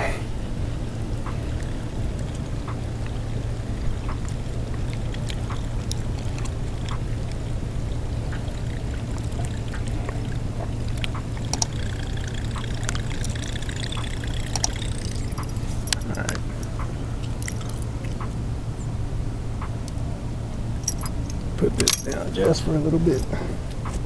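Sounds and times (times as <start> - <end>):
steady low hum: 0.0 - 24.0
water trickling and sloshing: 0.3 - 24.0
light clicks and ticks: 0.6 - 18.4, 20.8 - 24.0.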